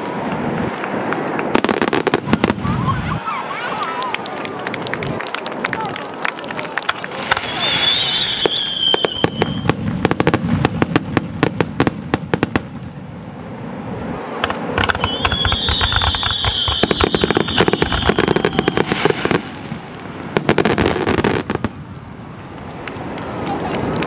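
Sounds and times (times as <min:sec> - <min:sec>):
fireworks crackling pops: 0:00.0 - 0:03.1, 0:03.8 - 0:13.0, 0:14.3 - 0:24.0.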